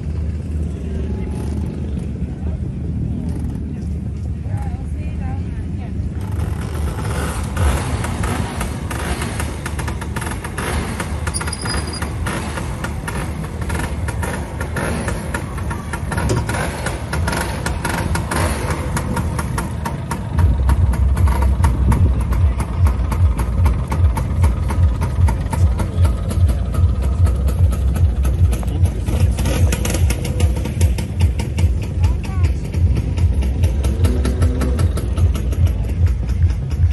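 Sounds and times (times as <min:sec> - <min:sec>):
scooter engine idling: 0:05.5 - 0:36.9.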